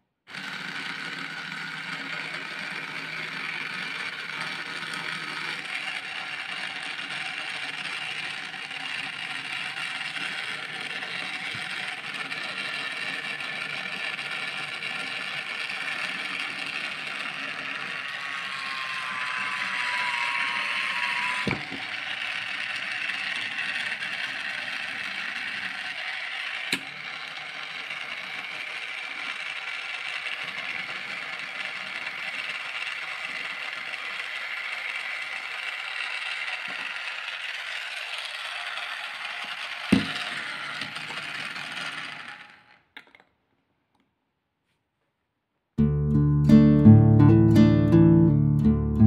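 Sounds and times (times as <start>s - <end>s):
jar opener motor running: 0.3s - 43.2s.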